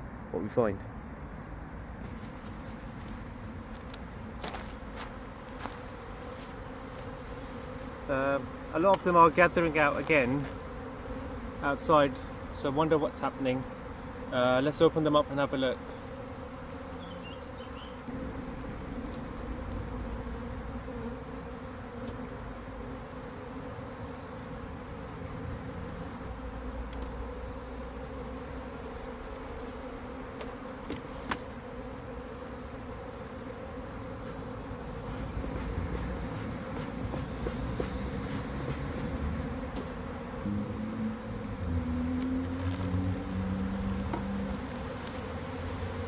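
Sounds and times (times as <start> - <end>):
bees buzzing: 2.1 - 46.0.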